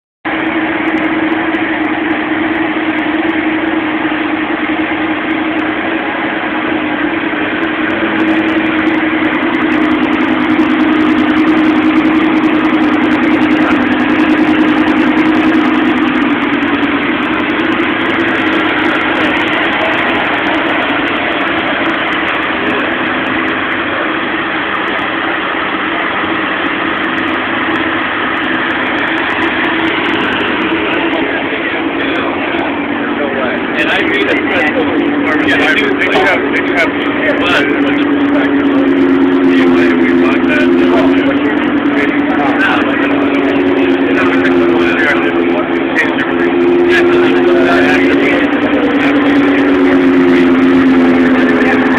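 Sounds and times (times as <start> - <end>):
car engine idling: 0.2 - 51.9.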